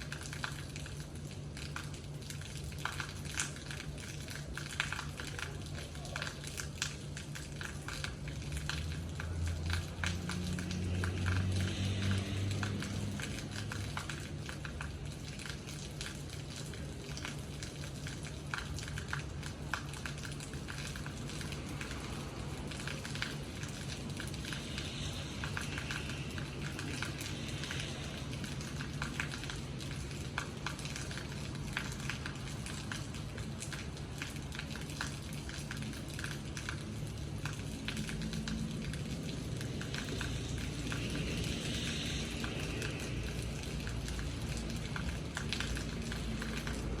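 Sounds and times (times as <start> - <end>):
raindrops clicking on surfaces: 0.0 - 47.0
rain hissing: 0.1 - 47.0.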